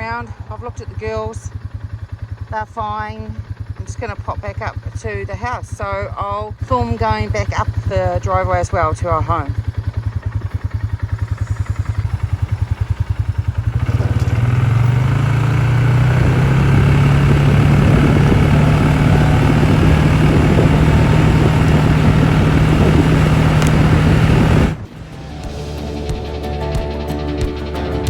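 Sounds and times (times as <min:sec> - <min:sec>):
quad bike engine: 0:00.0 - 0:28.0.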